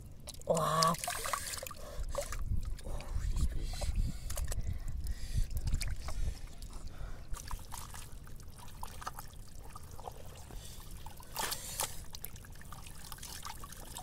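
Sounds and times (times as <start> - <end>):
squelching and sloshing in mud: 0.2 - 14.0
wet splashes and drips: 0.2 - 14.0.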